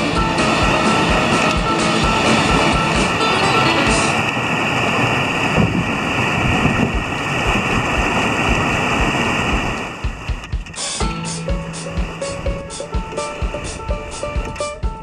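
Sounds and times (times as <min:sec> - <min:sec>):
wind buffeting microphone: 0:00.0 - 0:10.8, 0:12.0 - 0:15.0
river water rushing over ledge: 0:00.0 - 0:15.0.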